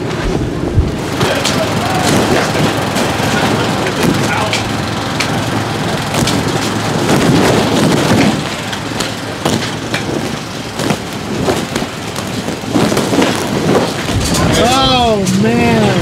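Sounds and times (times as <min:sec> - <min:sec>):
tent fabric flapping and snapping: 0:00.0 - 0:16.0
wind gusting: 0:00.0 - 0:16.0.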